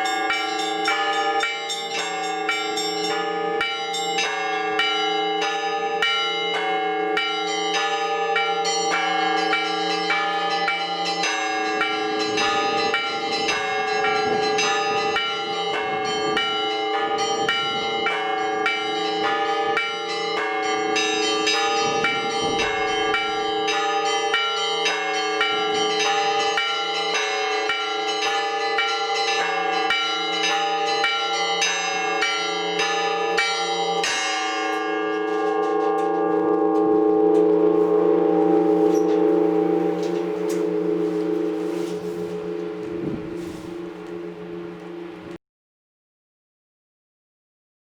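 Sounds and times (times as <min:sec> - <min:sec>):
small church bells struck rapidly: 0:00.0 - 0:45.2
hum of large bells: 0:00.0 - 0:45.4.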